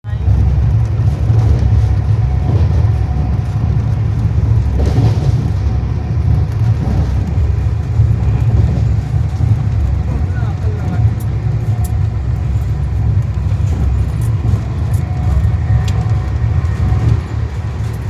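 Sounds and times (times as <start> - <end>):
train rumbling from on board: 0.0 - 18.0.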